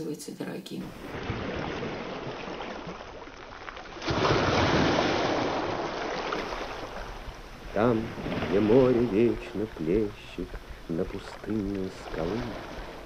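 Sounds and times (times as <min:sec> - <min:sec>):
wave breaking: 0:00.8 - 0:13.0
waves washing ashore: 0:00.8 - 0:13.0.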